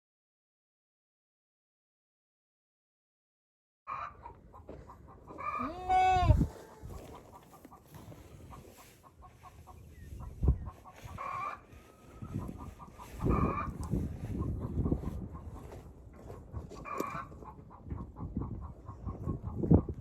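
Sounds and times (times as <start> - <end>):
chickens clucking: 3.9 - 20.0.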